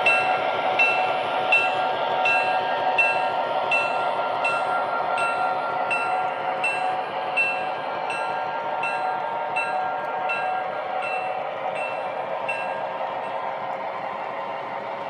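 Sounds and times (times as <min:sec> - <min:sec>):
model train bell ringing: 0:00.0 - 0:13.6
train wheels on track: 0:00.0 - 0:15.0.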